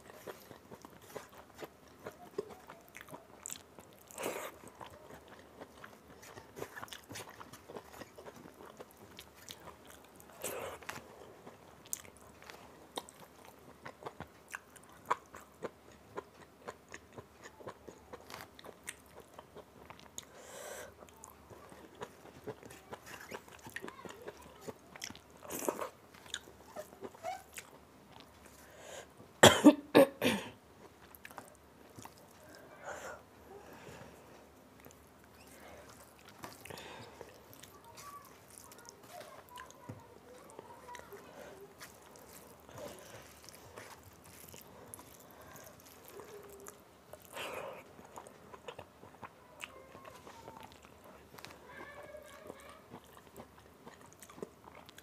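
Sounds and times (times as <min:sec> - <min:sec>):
chewing and wet mouth sounds: 0:00.0 - 0:28.8, 0:30.7 - 0:55.0.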